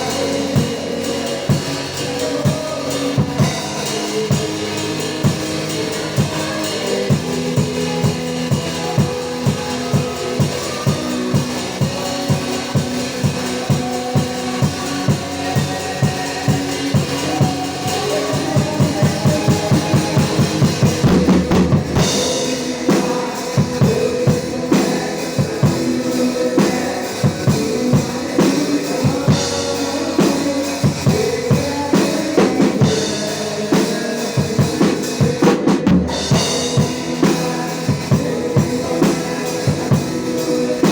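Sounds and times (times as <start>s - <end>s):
drum kit beat: 0.0s - 40.9s
worship band music: 0.0s - 40.9s.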